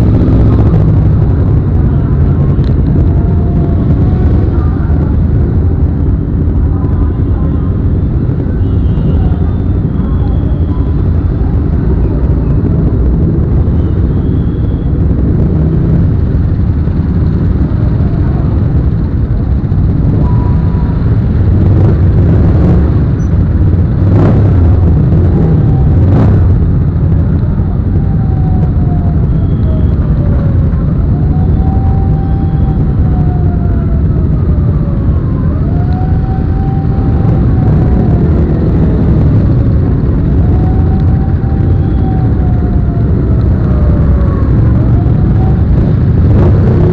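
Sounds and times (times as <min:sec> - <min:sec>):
motorcycle engine and road noise: 0:00.0 - 0:46.9.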